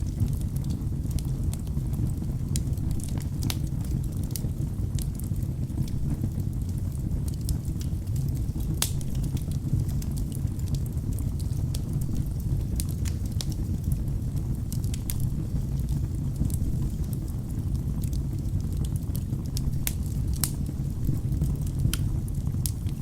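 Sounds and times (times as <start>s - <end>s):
burning logs crackling and popping: 0.0s - 23.0s
low rumble of flames: 0.0s - 23.0s.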